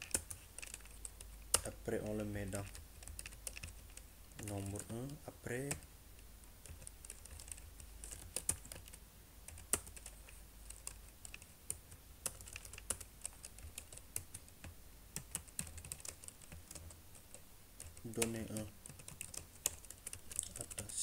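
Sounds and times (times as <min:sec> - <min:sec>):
typing on computer keyboard: 0:00.0 - 0:05.8, 0:06.6 - 0:21.0.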